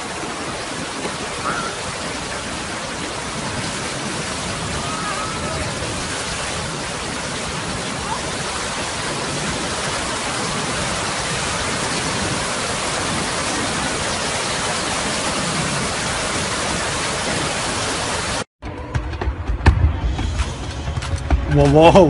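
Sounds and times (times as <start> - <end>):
ocean surf rushing over rocks: 0.0 - 18.5.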